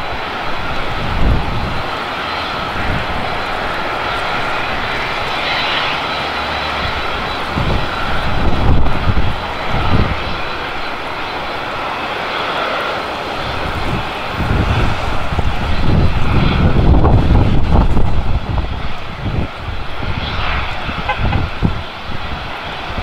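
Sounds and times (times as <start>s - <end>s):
jet turbines whining: 0.0s - 23.0s
low rumbling swells: 0.0s - 23.0s.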